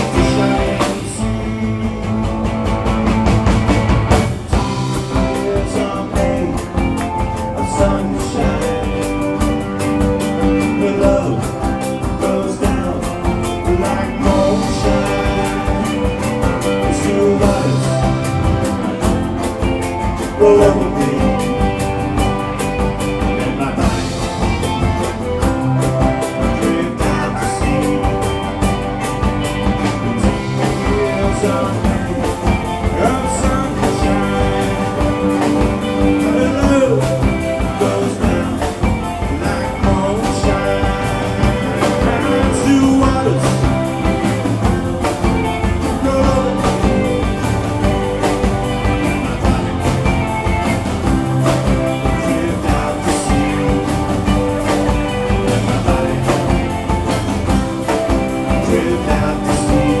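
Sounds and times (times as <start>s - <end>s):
bass guitar: 0.0s - 60.0s
drum kit beat: 0.0s - 60.0s
electric guitars: 0.0s - 60.0s
strummed acoustic guitar: 0.0s - 60.0s.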